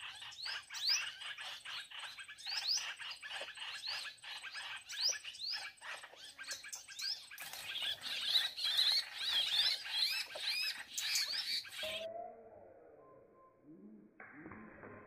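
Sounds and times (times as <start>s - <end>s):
songbirds chirping: 0.0s - 13.7s.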